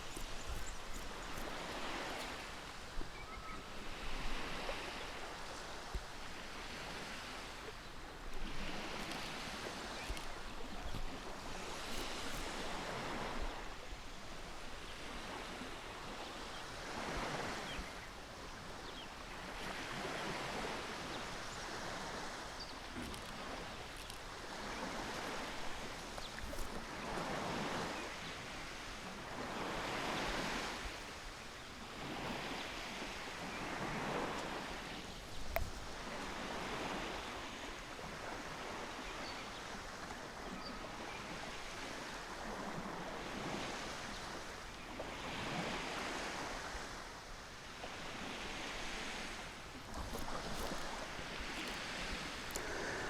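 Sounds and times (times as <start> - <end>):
ocean surf waves: 0.0 - 53.0
wind: 0.0 - 53.0.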